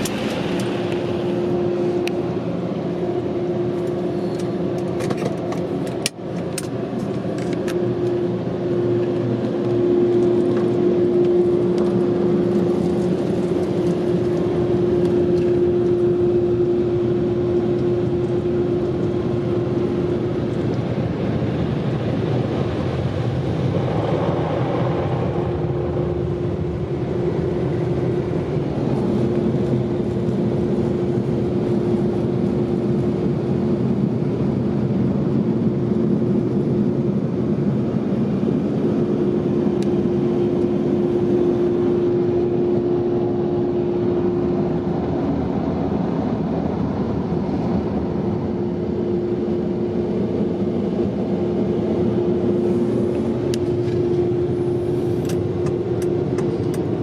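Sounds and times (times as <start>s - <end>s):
car wash dryer blowers: 0.0s - 57.0s.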